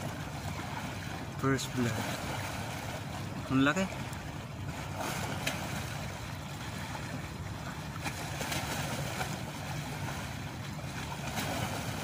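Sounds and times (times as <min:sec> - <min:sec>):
waves washing at shore: 0:00.0 - 0:12.0.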